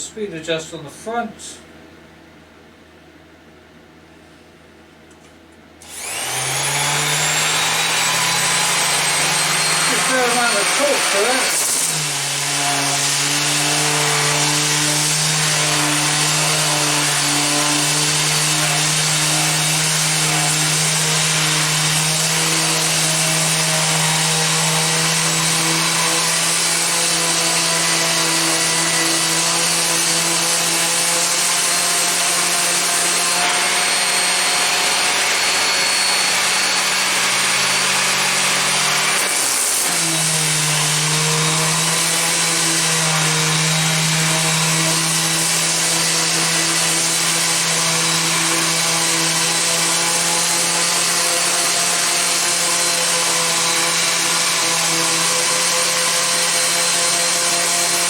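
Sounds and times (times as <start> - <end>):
orbital sander on wood: 5.8 - 58.0.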